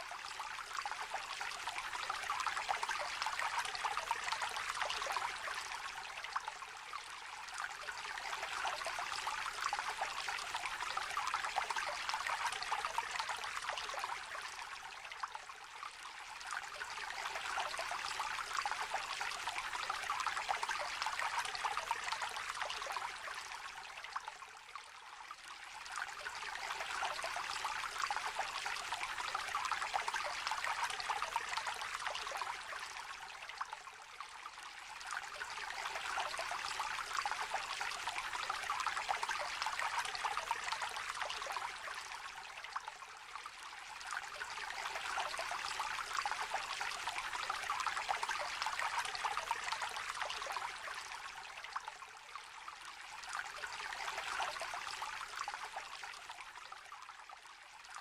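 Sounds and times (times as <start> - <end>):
river trickling and babbling: 0.0 - 58.0.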